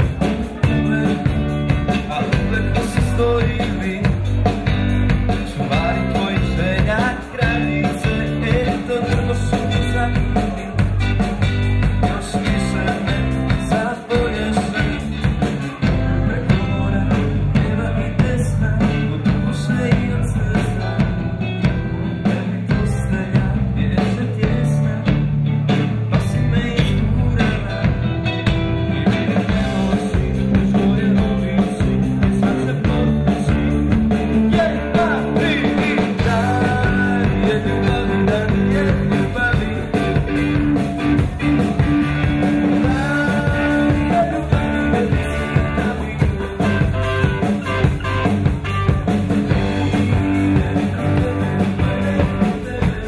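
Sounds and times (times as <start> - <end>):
drum kit: 0.0 - 53.0
electric bass: 0.0 - 53.0
electric guitar: 0.0 - 53.0
keyboard: 0.0 - 53.0.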